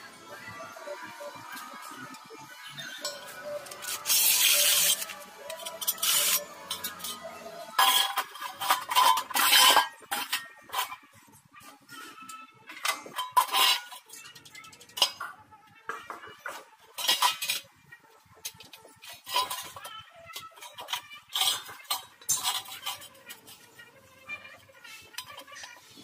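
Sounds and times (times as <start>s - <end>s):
metal clinking and scraping: 1.0s - 26.0s.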